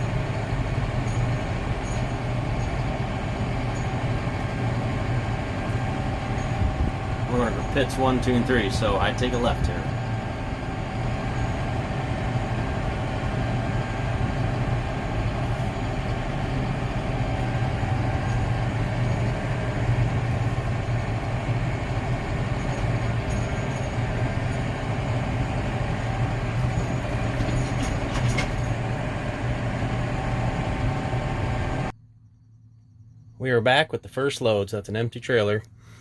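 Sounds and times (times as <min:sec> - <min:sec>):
road noise: 0:00.0 - 0:36.0
vehicle engine droning: 0:00.0 - 0:36.0.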